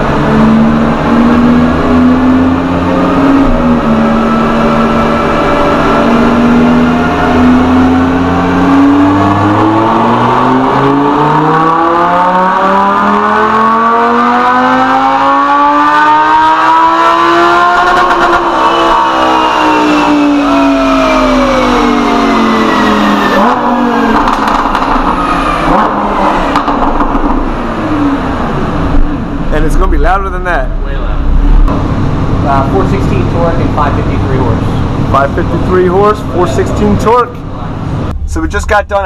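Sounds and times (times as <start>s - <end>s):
car engine revving on dyno: 0.0s - 38.2s.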